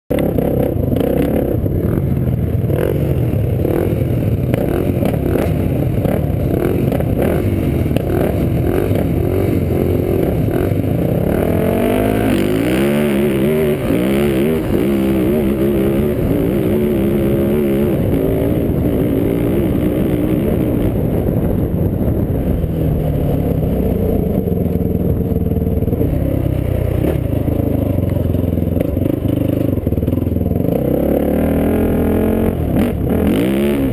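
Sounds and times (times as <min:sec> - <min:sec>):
atv engine revving: 0:00.1 - 0:33.9.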